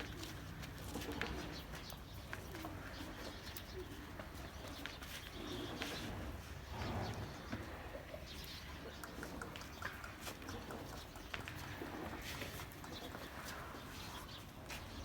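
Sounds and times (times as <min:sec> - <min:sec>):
birds cooing: 0:00.0 - 0:14.4.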